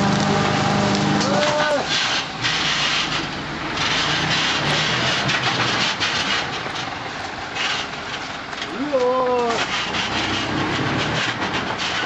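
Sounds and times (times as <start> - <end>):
rubbish crunching in turning drum: 0.0 - 12.0
truck engine running: 0.0 - 12.0.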